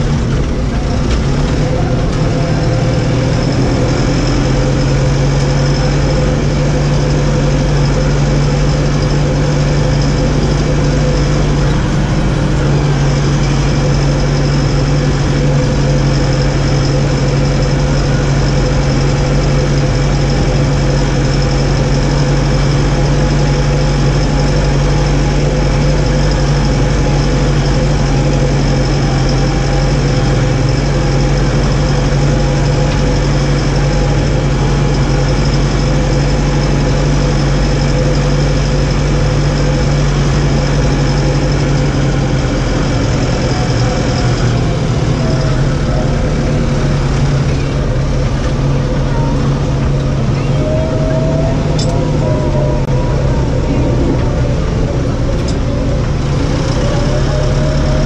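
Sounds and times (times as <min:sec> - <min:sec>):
steady whine: 0:00.0 - 0:58.0
tractor diesel engine running: 0:00.0 - 0:58.0.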